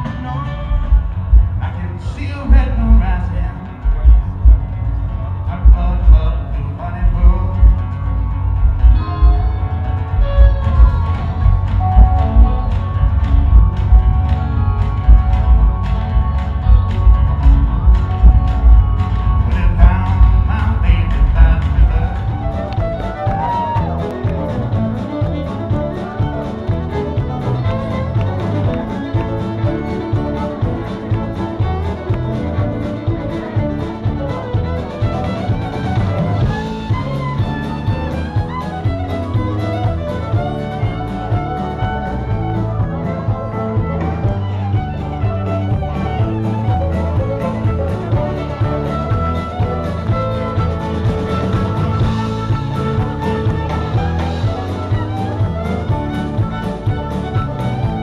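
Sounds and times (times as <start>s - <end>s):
fiddle lead: 0.0s - 58.0s
live band playing: 0.0s - 58.0s.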